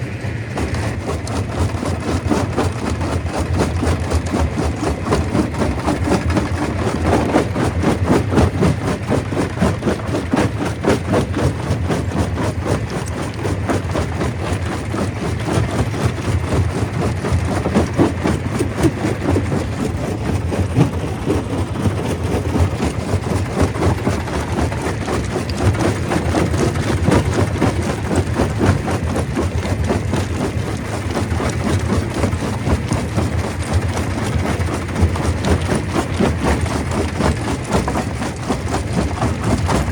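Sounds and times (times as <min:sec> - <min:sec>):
low mechanical rumble: 0:00.0 - 0:39.9
rock clattering in crusher: 0:00.5 - 0:39.9.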